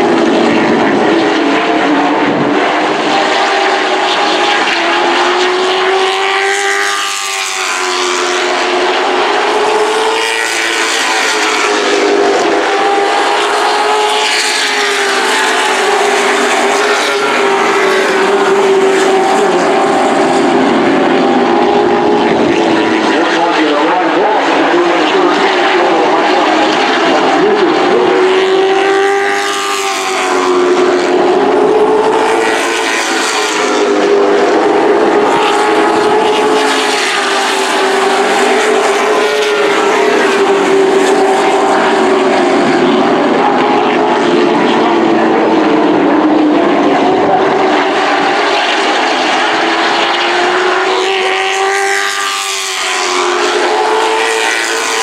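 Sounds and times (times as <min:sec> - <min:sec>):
race truck engines: 0:00.0 - 0:55.0.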